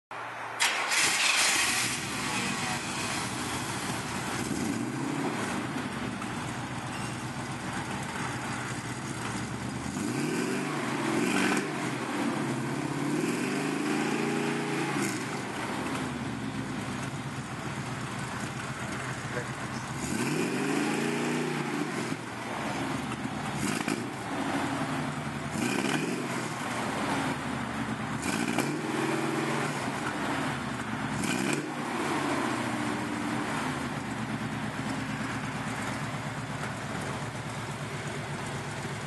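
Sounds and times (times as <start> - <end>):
vee eight engine idling and revving: 0.6 - 39.0.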